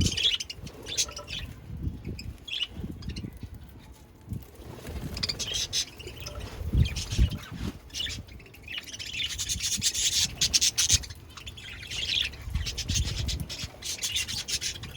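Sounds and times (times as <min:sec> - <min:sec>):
budgies chattering: 0:00.0 - 0:03.5, 0:04.9 - 0:14.9.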